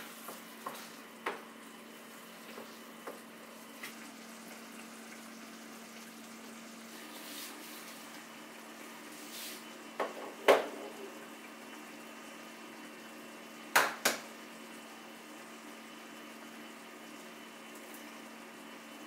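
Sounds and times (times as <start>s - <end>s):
sauce bubbling in a pan: 0.0s - 19.0s.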